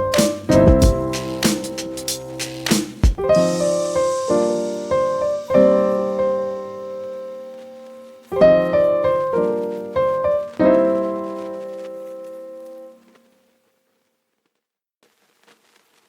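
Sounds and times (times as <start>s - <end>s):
slow piano chords: 0.0s - 13.2s.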